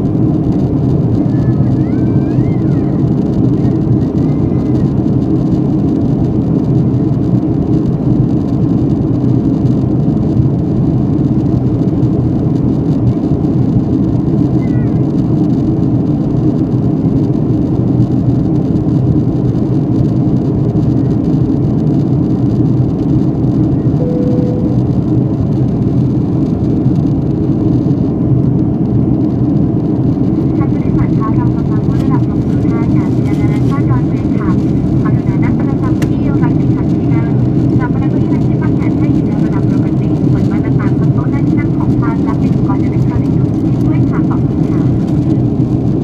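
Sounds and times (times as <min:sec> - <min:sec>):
airliner cabin engine drone: 0:00.0 - 0:46.0.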